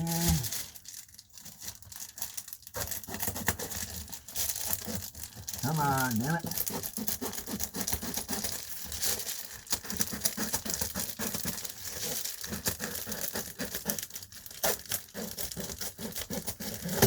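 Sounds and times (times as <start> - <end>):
bubble insulation crinkling: 0.0 - 17.0.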